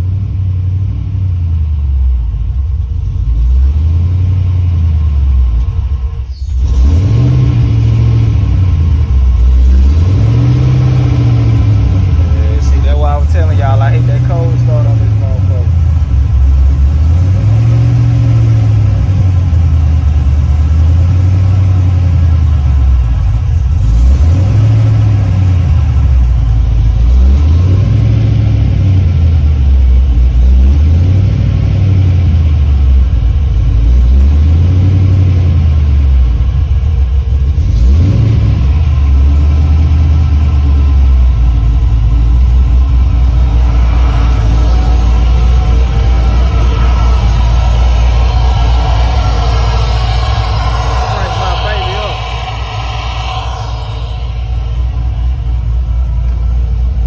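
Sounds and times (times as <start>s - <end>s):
car engine revving loud exhaust: 0.0s - 57.0s.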